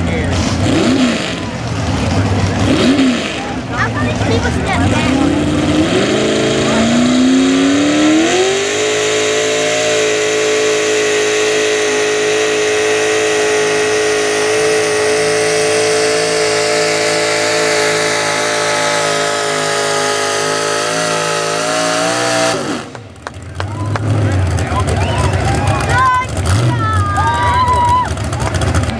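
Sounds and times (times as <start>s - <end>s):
truck engine at full throttle: 0.0s - 28.9s.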